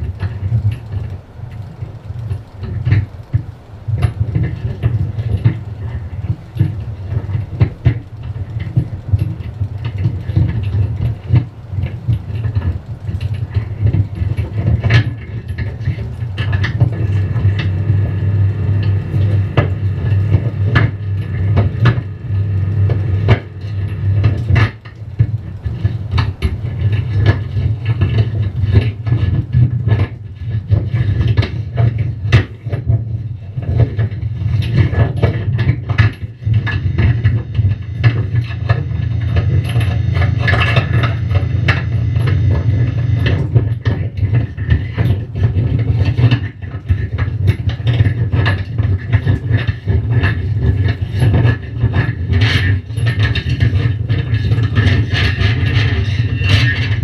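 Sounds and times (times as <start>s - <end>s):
electric guitar low drone: 0.0s - 46.1s
sharp clicks and scrapes: 0.0s - 57.0s.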